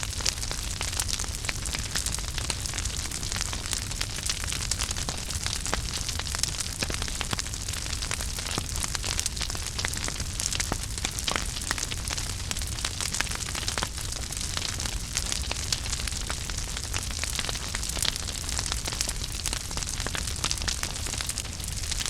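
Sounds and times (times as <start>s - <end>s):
rumble and hiss of flames: 0.0s - 22.0s
wood fire crackling and popping: 0.0s - 22.0s.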